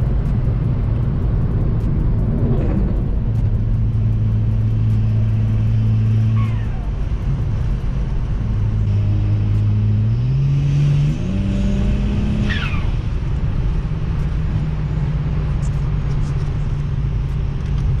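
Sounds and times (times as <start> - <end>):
turbocharged car engine revving: 0.0 - 18.0.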